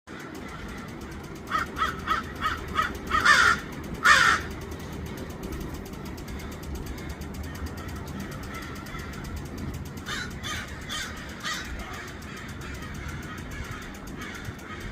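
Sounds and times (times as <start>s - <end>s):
crows cawing: 0.1s - 14.9s.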